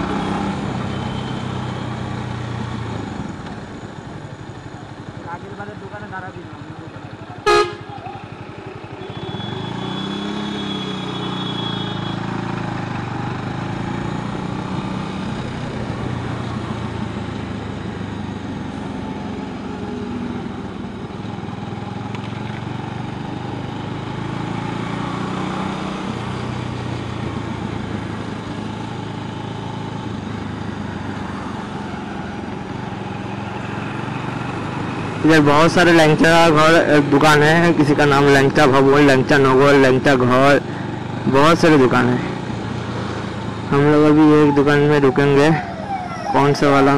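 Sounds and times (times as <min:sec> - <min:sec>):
road and wind noise: 0:00.0 - 0:46.9
motorcycle engine running: 0:02.0 - 0:44.3.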